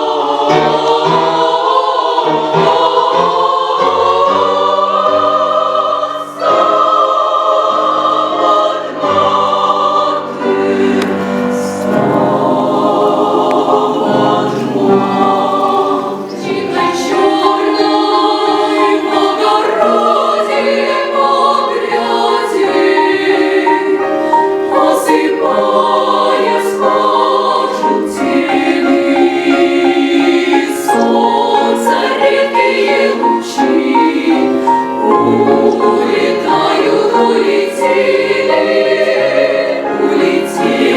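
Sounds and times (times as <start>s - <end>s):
women's choir singing: 0.0s - 40.9s.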